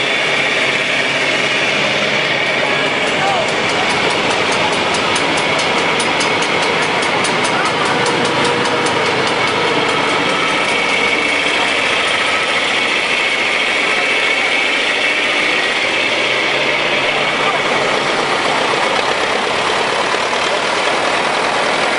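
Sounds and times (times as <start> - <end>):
old tractor engines running: 0.0 - 21.9
regular engine popping: 0.0 - 21.9.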